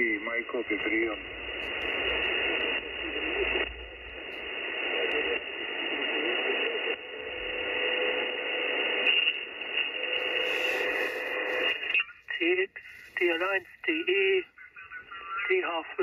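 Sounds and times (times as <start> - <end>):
radio receiver hiss and static: 0.0 - 16.0.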